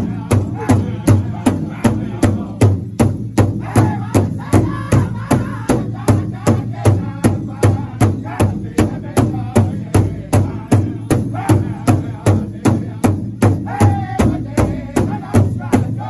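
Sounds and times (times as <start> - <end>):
large drum beaten in unison: 0.0 - 16.0
men singing: 0.0 - 16.0.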